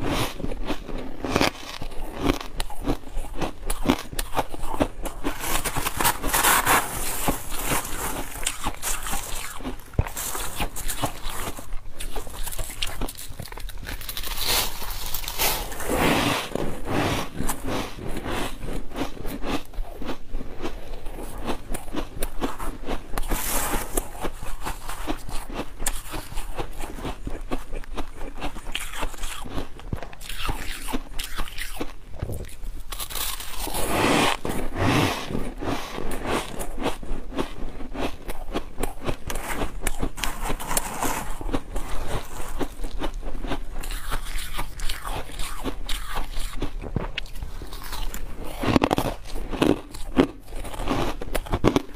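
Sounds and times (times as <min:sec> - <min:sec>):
crunchy chewing of frost: 0:00.0 - 0:51.9.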